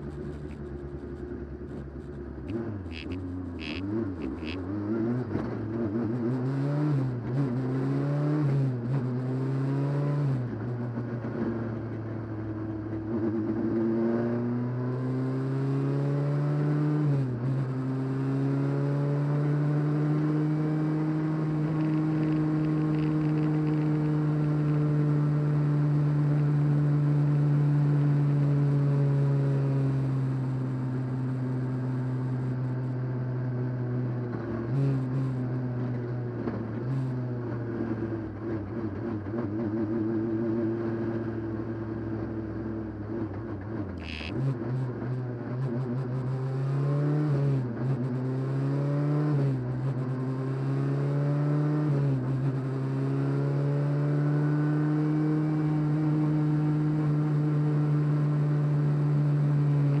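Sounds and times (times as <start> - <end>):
rally car engine revving: 0.0 - 60.0.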